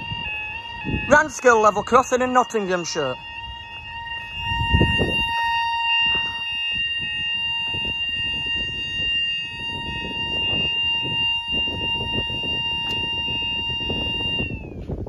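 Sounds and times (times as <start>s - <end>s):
high-pitched electronic warning tone: 0.0s - 15.0s.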